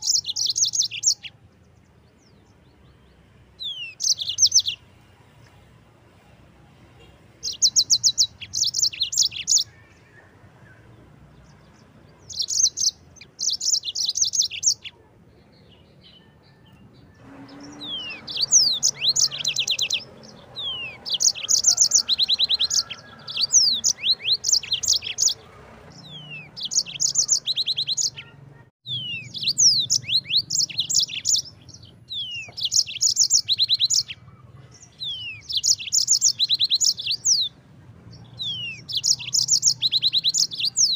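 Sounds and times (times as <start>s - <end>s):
canary singing high trills: 0.0s - 1.4s, 3.6s - 4.8s, 7.3s - 10.9s, 11.7s - 14.9s, 15.8s - 37.6s, 38.2s - 40.9s.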